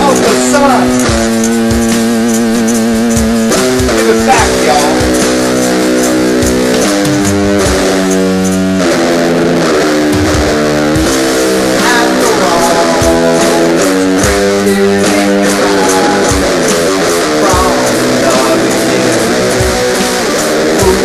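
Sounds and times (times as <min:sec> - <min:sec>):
rock song with electric guitar: 0:00.0 - 0:21.0.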